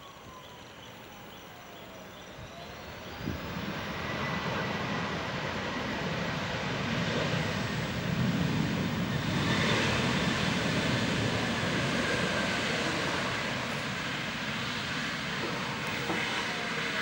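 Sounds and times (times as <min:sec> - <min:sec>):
jet engines rolling on runway: 0:00.0 - 0:17.0.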